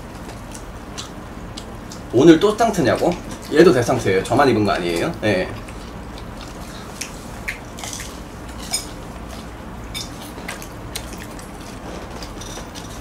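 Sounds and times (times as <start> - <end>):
chewing and handling food: 0.0 - 13.0
low steady hum: 0.0 - 13.0.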